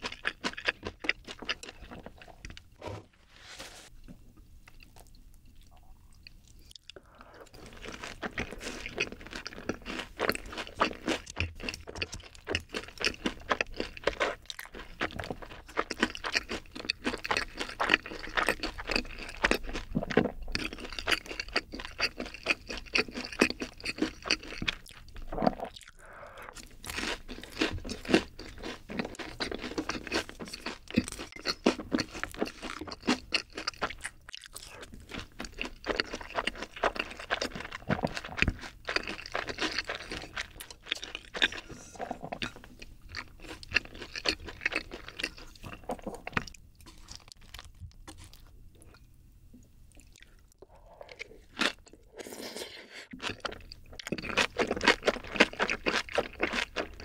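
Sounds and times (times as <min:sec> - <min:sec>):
crunchy chewing: 0:00.0 - 0:02.7, 0:04.6 - 0:49.1, 0:49.9 - 0:57.0.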